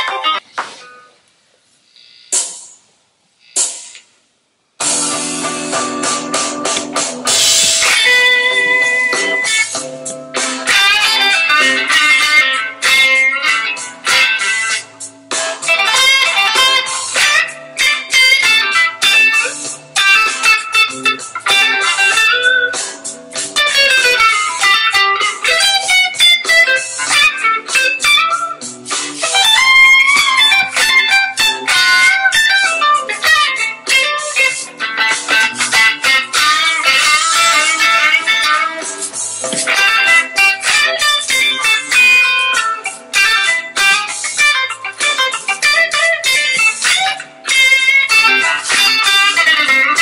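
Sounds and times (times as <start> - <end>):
electric guitar lead: 0.0 - 1.1, 4.8 - 50.0.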